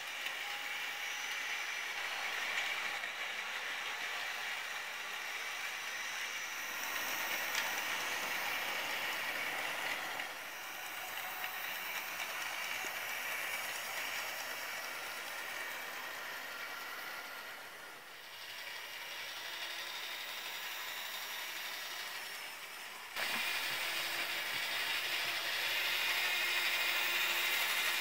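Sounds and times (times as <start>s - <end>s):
model train motor whirring: 0.0s - 28.0s
wheels running over rails: 0.0s - 28.0s.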